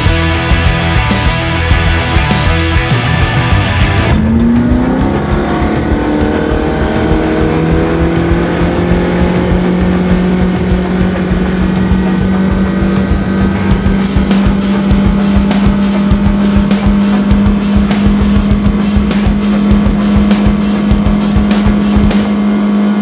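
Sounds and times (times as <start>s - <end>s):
outboard motor accelerating: 0.0s - 23.0s.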